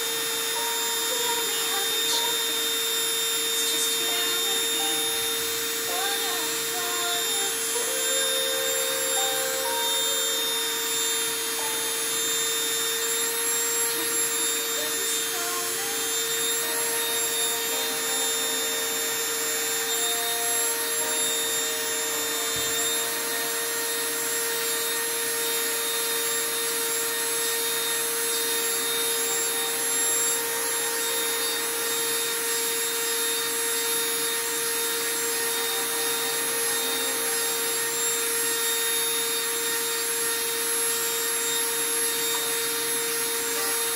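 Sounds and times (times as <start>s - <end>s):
rotary tool drilling glass: 0.0s - 43.9s.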